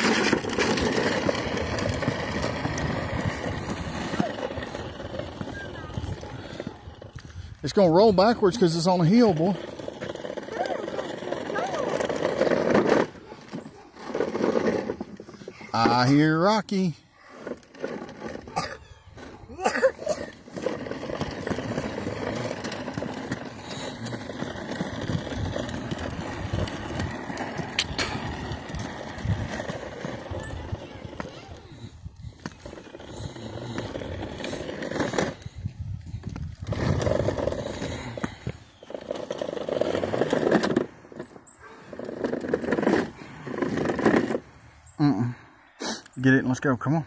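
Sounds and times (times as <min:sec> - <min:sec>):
toy truck wheels rolling on asphalt: 0:00.0 - 0:47.0.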